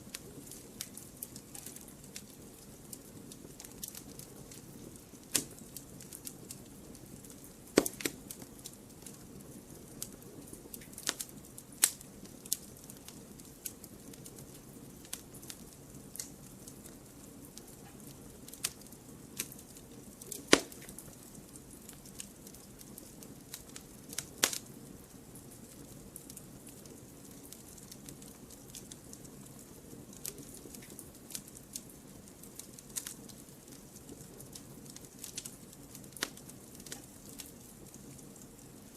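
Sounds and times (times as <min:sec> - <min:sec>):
fire hissing: 0:00.0 - 0:38.9
wood fire crackling and popping: 0:00.0 - 0:38.9.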